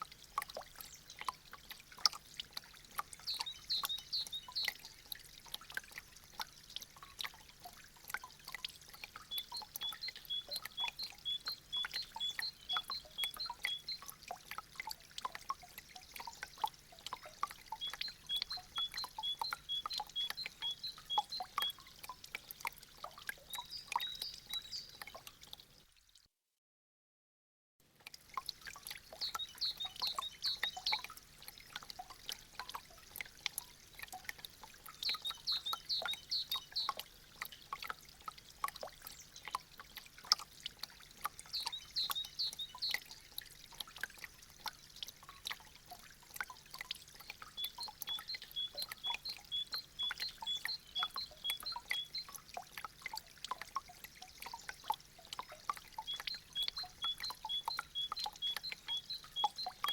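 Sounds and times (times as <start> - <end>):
water drops splashing: 0.0 - 25.8, 28.0 - 59.9
water trickling: 0.0 - 26.3, 27.8 - 59.9.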